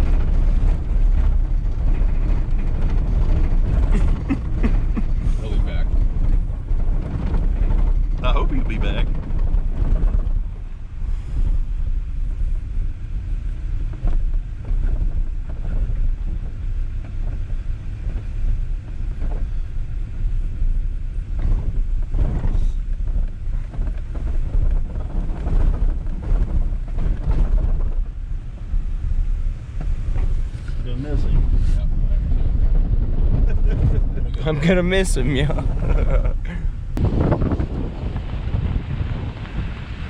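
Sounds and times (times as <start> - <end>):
pickup truck rumbling: 0.0 - 40.0
wind buffeting microphone: 0.0 - 40.0.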